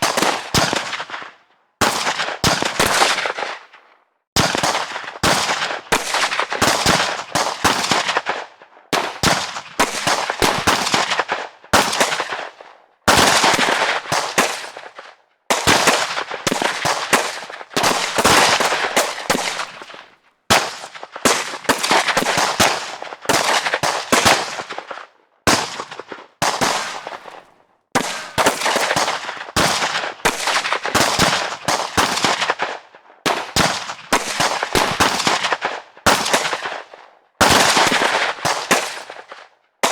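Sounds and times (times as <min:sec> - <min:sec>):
gunshots echoing: 0:00.0 - 0:03.8, 0:04.4 - 0:39.9.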